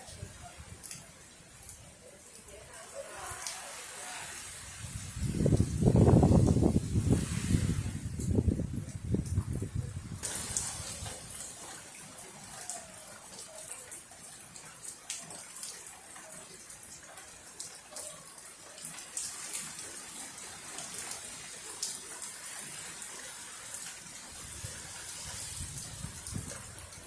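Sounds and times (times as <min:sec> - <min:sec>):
small splashes and drips: 0:00.0 - 0:27.0.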